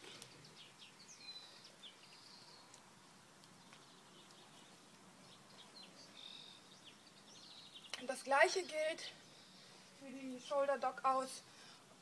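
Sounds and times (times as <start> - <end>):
faint birdsong chirps and trills: 0.0 - 12.0
quiet outdoor background noise: 0.0 - 12.0.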